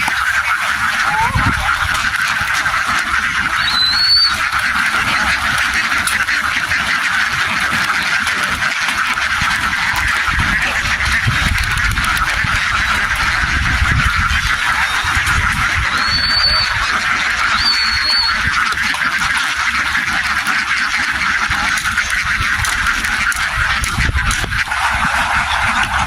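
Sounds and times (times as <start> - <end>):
flock of ducks quacking: 0.0 - 26.0.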